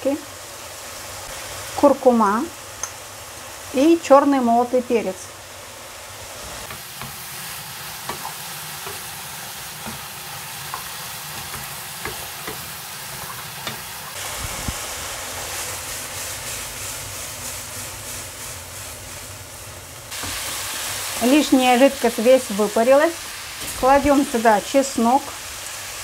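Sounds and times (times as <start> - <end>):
vegetables sizzling in a frying pan: 0.0 - 26.0.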